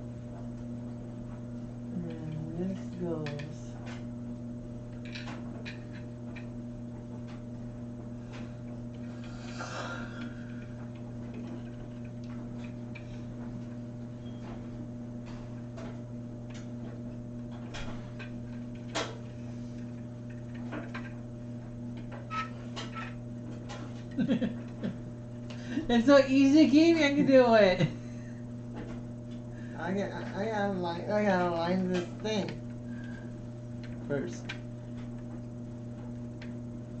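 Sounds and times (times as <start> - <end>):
low electrical hum: 0.0 - 37.0.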